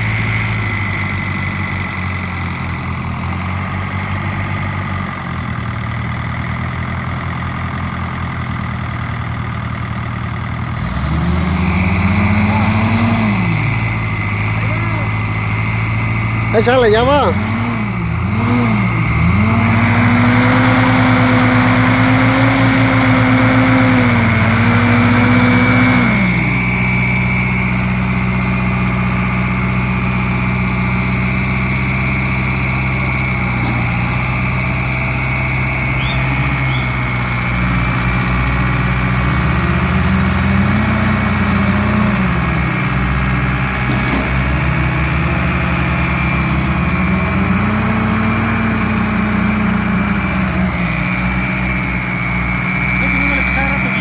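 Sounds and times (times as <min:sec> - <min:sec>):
tractor engine labouring: 0:00.0 - 0:54.0.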